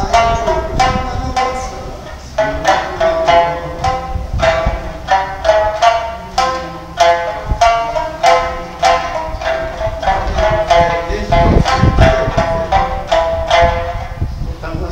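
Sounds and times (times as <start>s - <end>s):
plucked lutes playing folk tune: 0.0s - 14.9s.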